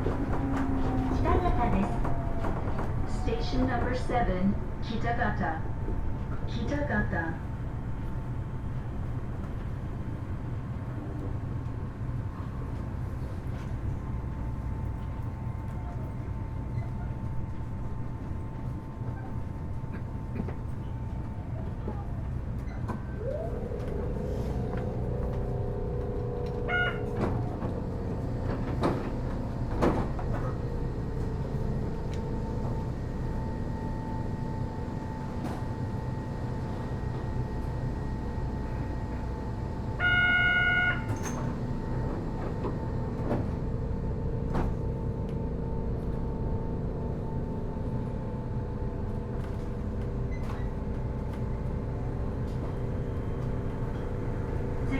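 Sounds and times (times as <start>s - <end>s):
train running noise: 0.0s - 54.9s.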